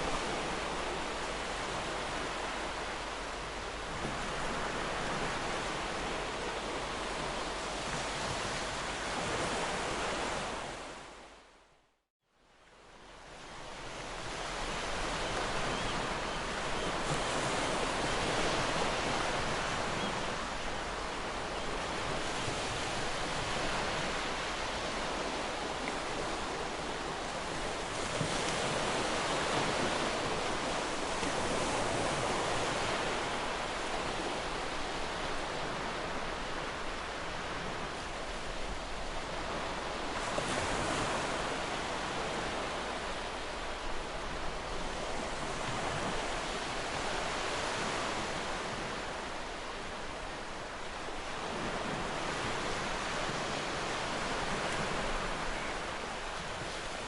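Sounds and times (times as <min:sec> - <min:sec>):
ocean waves breaking on shore: 0:00.0 - 0:11.6, 0:12.6 - 0:57.0.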